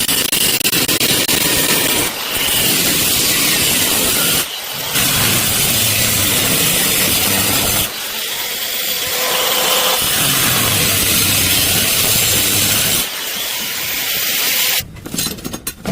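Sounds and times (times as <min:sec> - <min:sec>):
welding arc crackling: 0:00.4 - 0:14.8.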